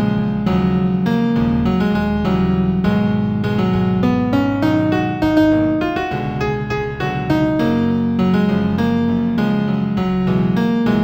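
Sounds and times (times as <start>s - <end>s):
new age piano music: 0.0s - 11.0s.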